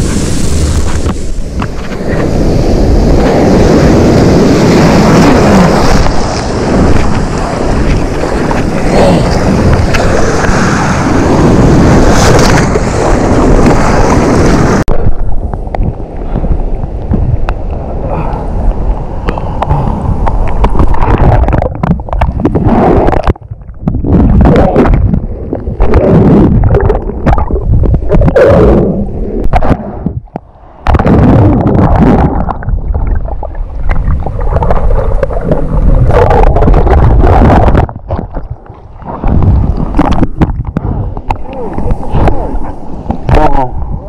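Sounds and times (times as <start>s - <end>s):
sea water sloshing and gurgling: 0.0s - 44.0s.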